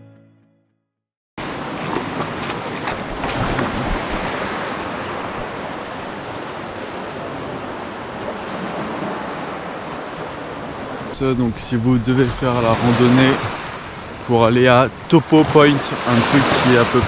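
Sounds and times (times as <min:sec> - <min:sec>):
small waves washing over sand: 0:01.4 - 0:17.0
wind buffeting microphone: 0:01.5 - 0:17.0.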